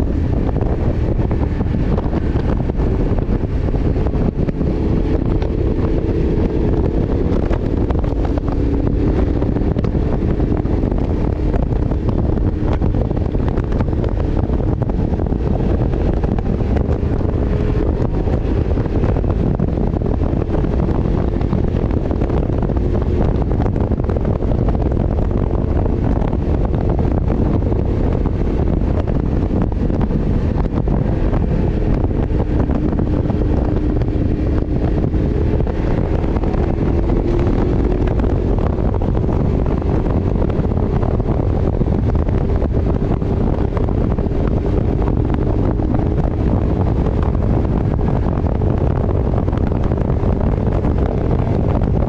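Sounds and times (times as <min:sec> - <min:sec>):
motorcycle engine droning: 0:00.0 - 0:52.0
wind buffeting microphone: 0:00.0 - 0:52.0.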